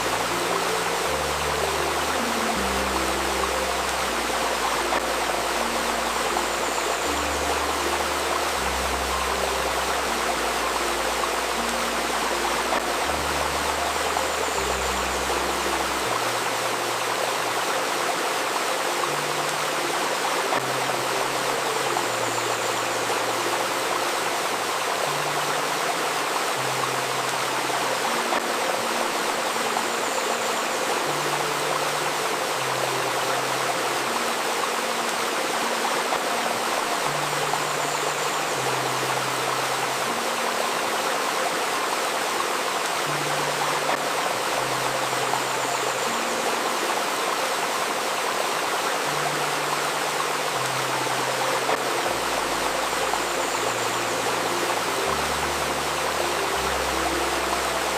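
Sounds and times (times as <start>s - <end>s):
soft low synthesizer notes: 0.0s - 57.9s
stream water flowing: 0.0s - 57.9s.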